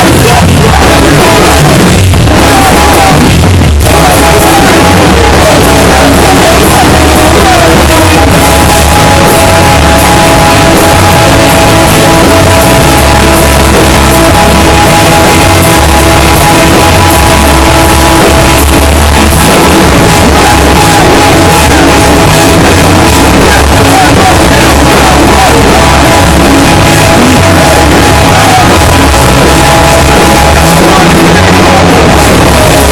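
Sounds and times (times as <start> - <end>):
distorted heavy rock band: 0.0 - 32.9.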